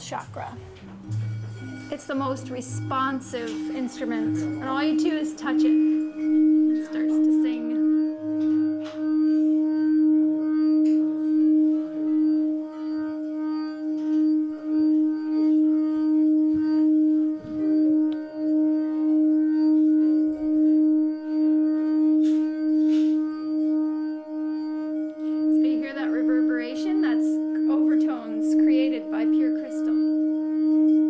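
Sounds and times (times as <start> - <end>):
crystal singing bowl tone: 0.0 - 31.0.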